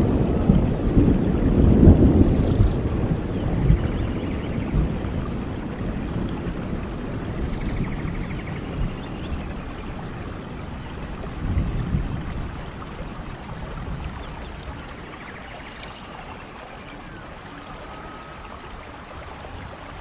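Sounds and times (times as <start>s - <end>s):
running water: 0.0s - 20.0s
steady rain: 0.0s - 20.0s.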